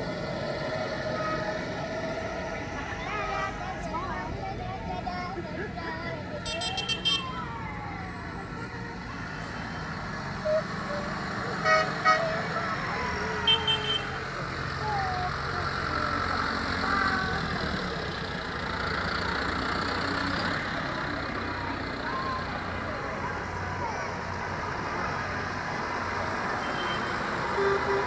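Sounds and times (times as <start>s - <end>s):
crowd voices: 0.0s - 28.0s
tractor engines droning: 0.0s - 28.0s.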